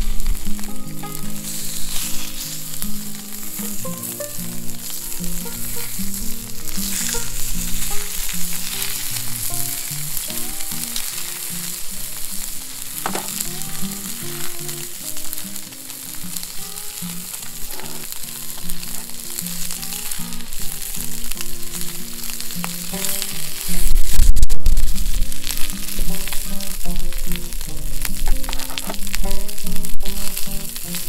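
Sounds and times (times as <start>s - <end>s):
soft background music: 0.0s - 24.1s, 25.0s - 31.0s
steady sizzling hiss: 0.0s - 31.0s.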